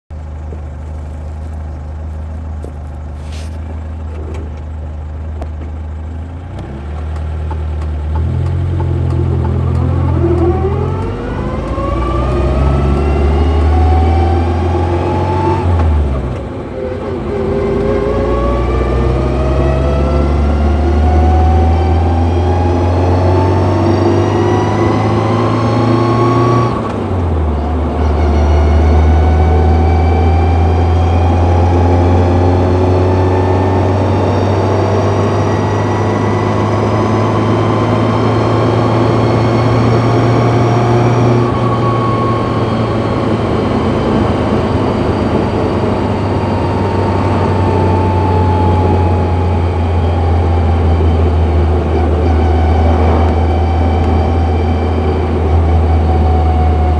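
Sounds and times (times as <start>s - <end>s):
car engine hum: 0.1s - 56.9s
gearbox whining: 0.1s - 56.9s.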